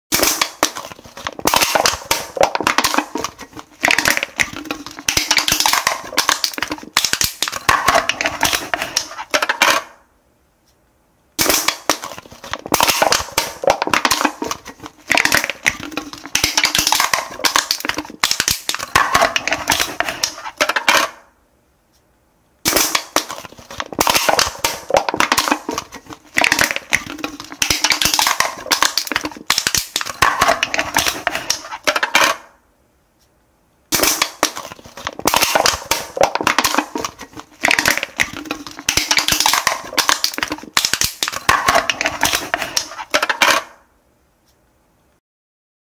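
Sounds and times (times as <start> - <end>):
aluminium cans being crushed: 0.1 - 10.0, 11.4 - 21.2, 22.7 - 32.5, 33.9 - 43.8.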